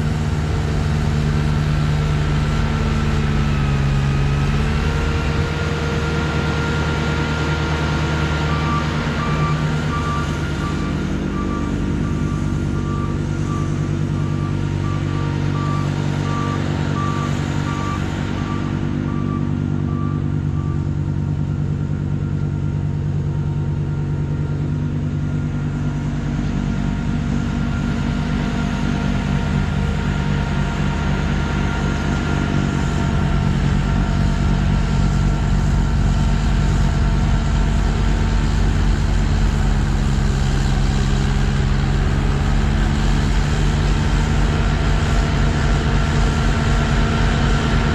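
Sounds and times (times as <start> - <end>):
tractor engine running: 0.0 - 47.9
reversing beeper: 2.2 - 40.8.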